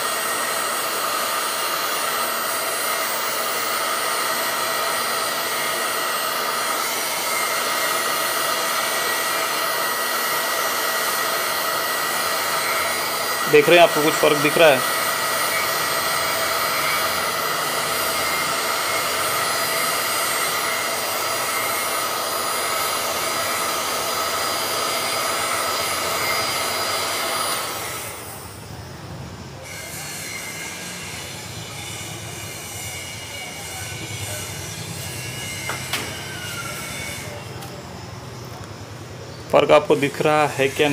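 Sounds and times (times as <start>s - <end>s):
heat gun blowing air: 0.0s - 28.7s, 29.6s - 37.7s, 39.5s - 40.9s.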